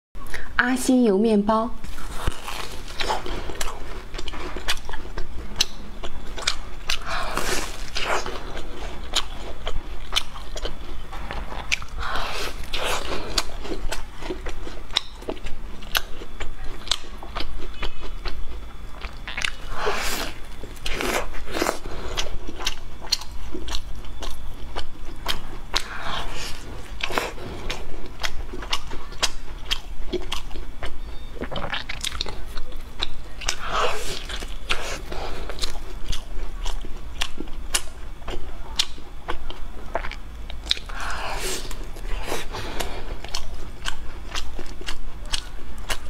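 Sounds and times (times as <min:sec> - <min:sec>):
crunchy fried bread chewing: 0:01.8 - 0:46.0.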